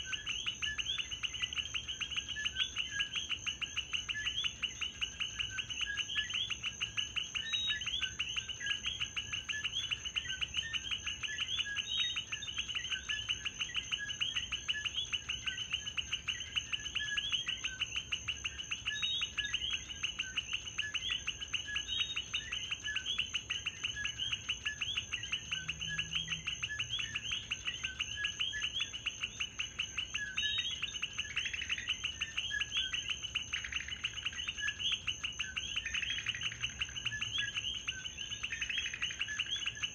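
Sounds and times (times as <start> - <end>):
constant high-pitched whine: 0.0 - 39.9
frogs calling: 0.0 - 39.9.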